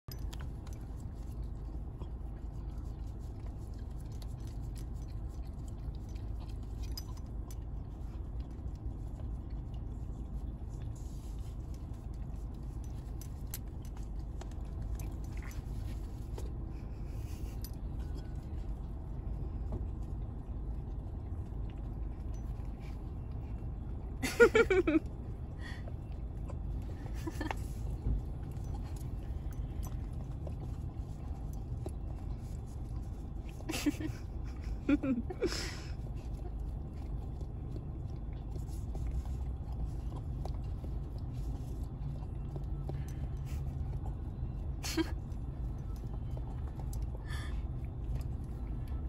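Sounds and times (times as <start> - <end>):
car interior rumble: 7.9 - 49.0.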